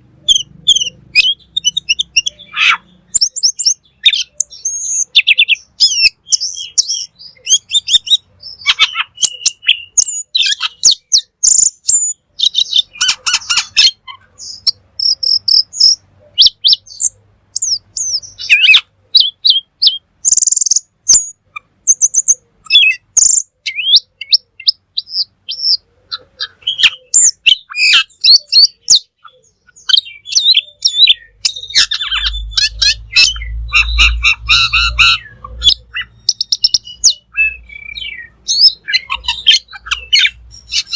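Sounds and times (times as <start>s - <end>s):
songbird singing trills: 0.0s - 40.9s.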